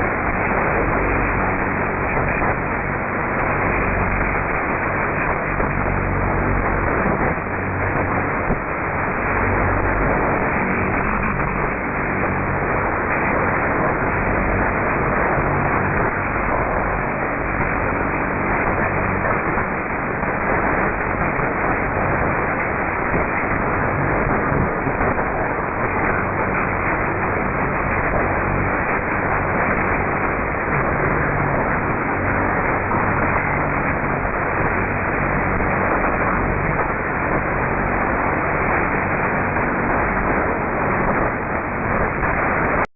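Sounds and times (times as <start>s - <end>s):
low radio hum: 0.0s - 42.9s
radio static hiss: 0.0s - 42.9s.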